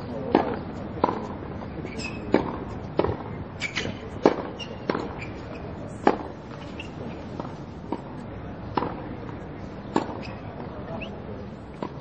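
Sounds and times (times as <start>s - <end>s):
tennis balls struck by rackets: 0.0s - 12.0s
tennis balls bouncing on court: 0.1s - 12.0s.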